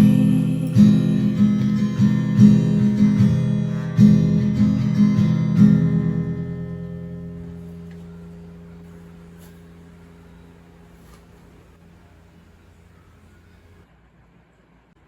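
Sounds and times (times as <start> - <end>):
acoustic guitar strumming chords: 0.0 - 13.3.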